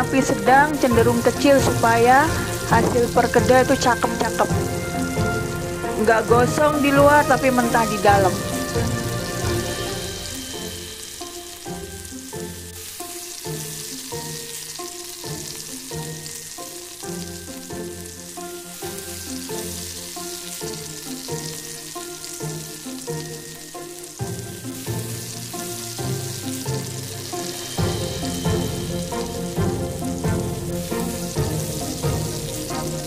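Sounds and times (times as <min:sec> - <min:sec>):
background music: 0:00.0 - 0:33.0
fritters sizzling in hot oil: 0:00.0 - 0:33.0.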